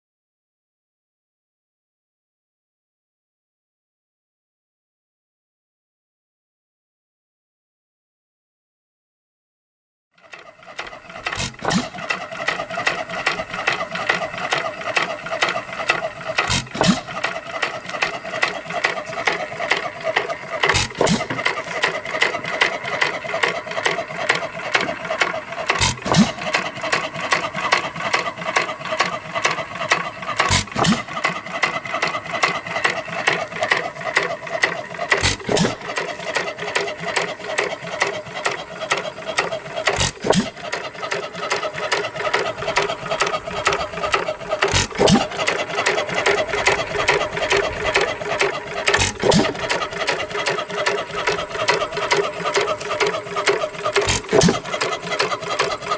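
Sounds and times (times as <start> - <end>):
engine knock: 10.2 - 55.9
engine mechanical clatter: 10.2 - 55.9.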